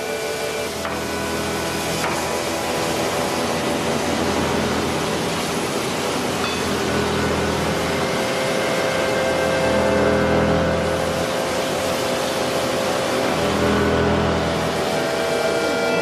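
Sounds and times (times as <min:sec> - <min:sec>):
steady noisy hum: 0:00.0 - 0:16.0.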